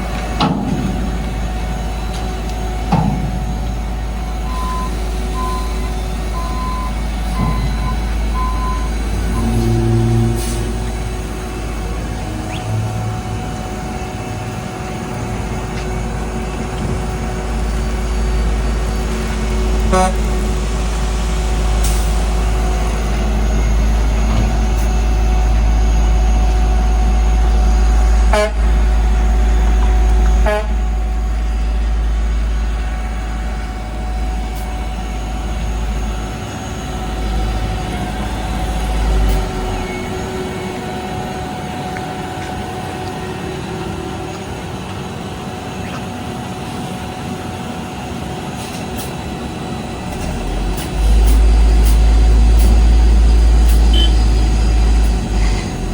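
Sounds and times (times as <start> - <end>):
paving machinery engine rumble: 0.0 - 55.9.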